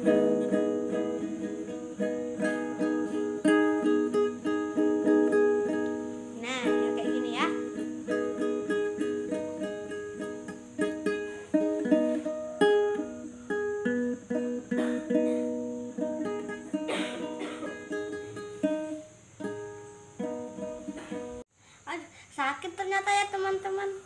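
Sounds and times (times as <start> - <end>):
nylon-string guitar plucked: 0.0 - 21.4.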